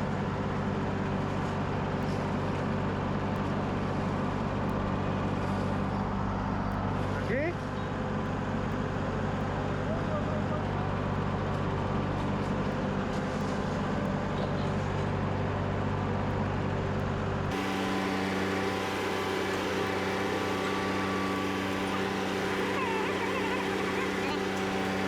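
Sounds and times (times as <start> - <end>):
skid steer diesel engine: 0.0 - 25.0.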